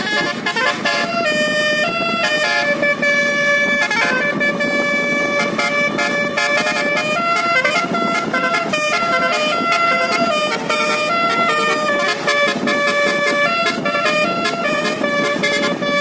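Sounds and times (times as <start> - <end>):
bus musical air horn melody: 0.0 - 16.0.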